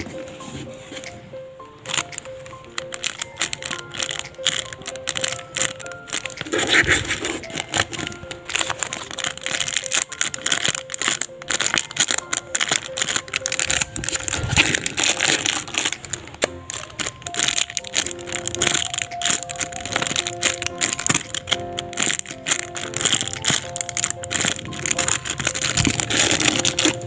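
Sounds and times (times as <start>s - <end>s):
background music: 0.0s - 27.0s
plastic packaging crinkling: 1.8s - 27.0s.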